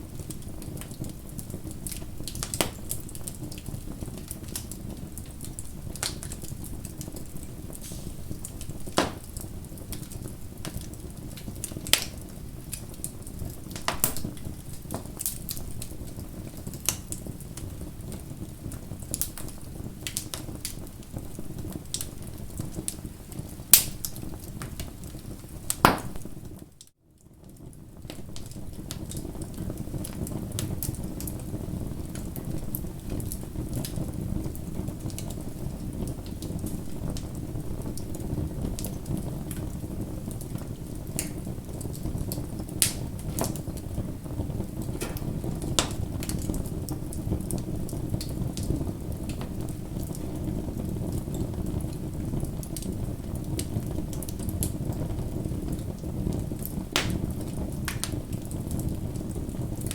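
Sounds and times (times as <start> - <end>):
bonfire flames rushing: 0.0 - 26.6, 27.8 - 59.9
fire crackling and popping: 0.0 - 59.9.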